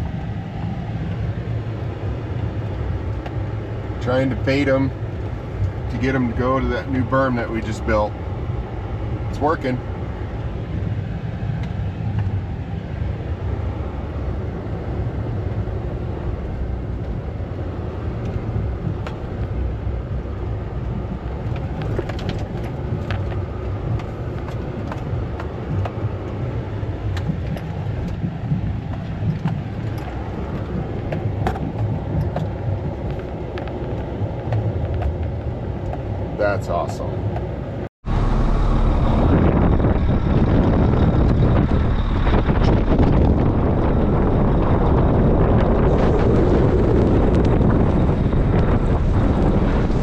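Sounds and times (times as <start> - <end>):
vehicle engine and tyres rumbling: 0.0 - 50.0.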